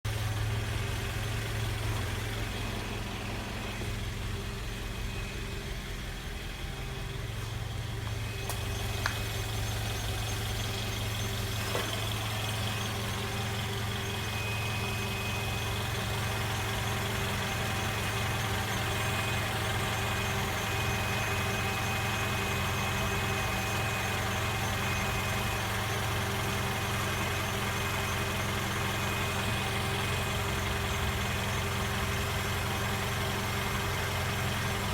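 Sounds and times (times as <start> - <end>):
car engine hum: 0.0 - 34.9
high-pitched transmission whine: 0.1 - 34.9.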